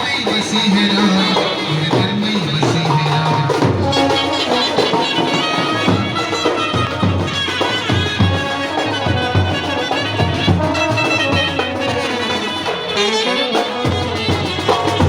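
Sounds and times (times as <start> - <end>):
brass band playing: 0.0 - 15.0
drum beat: 0.0 - 15.0.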